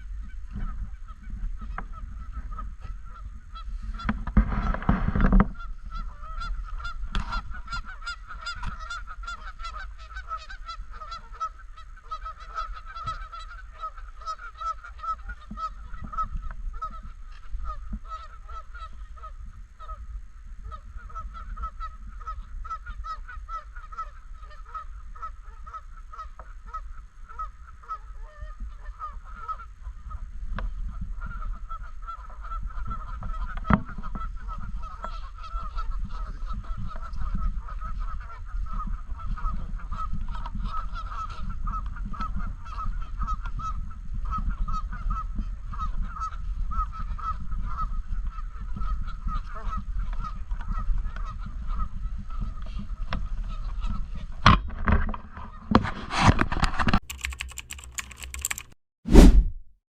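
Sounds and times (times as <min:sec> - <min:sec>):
geese honking: 0:00.0 - 0:54.4.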